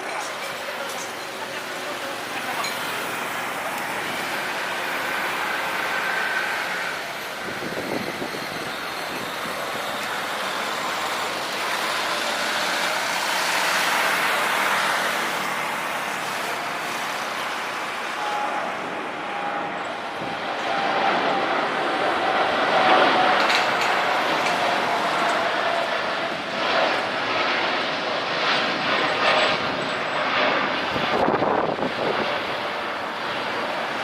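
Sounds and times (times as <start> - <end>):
jet engine rushing: 0.0 - 34.0.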